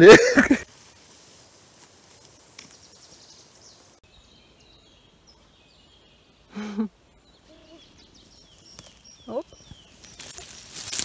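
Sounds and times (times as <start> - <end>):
high songbird chirps: 0.4 - 11.0
faint distant bird calls: 0.5 - 10.5.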